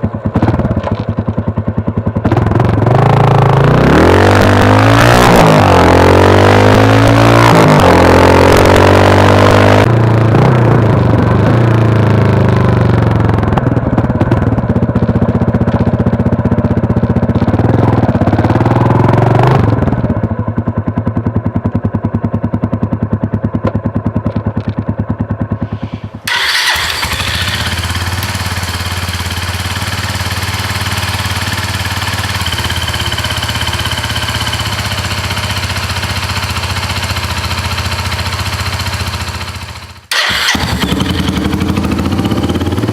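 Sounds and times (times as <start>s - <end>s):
motorcycle engine revving and idling: 0.0s - 42.9s.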